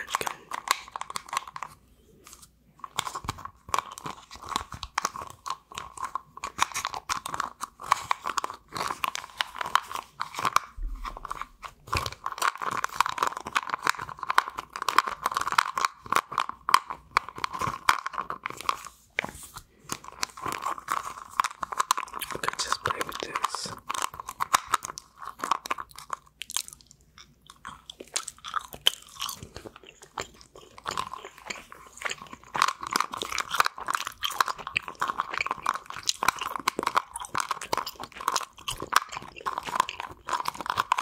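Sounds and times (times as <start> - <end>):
chewing gum wet clicks and smacks: 0.0 - 1.8, 2.8 - 18.8, 19.8 - 41.0.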